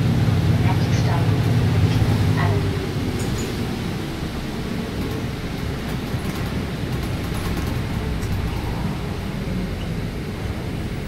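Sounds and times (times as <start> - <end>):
bus engine and tyres rumbling: 0.0 - 11.0.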